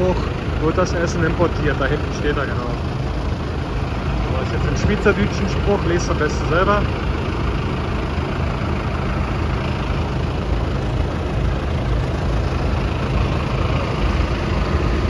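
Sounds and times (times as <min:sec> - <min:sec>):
tractor engines idling: 0:00.0 - 0:15.0.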